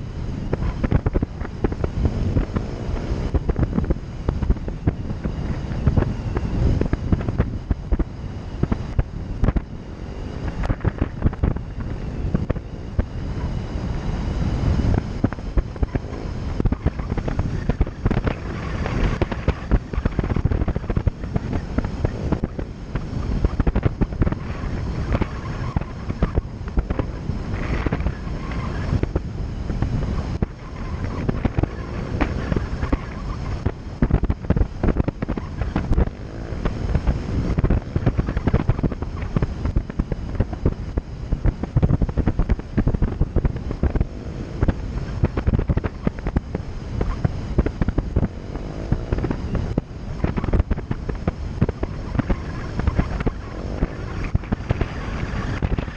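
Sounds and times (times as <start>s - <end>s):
vehicle running noise: 0.0s - 55.9s
wind buffeting microphone: 0.0s - 55.9s.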